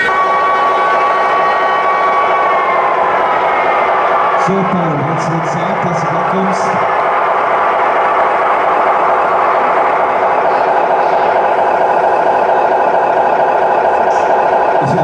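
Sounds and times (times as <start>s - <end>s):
model truck engine running: 2.0s - 15.0s.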